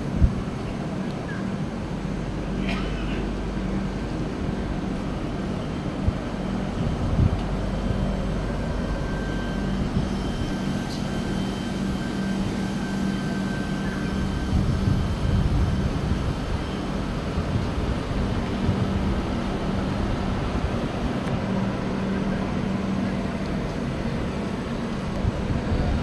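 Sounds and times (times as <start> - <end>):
constant low hum: 0.0 - 26.0
train wheels rumbling on rail: 0.0 - 26.0.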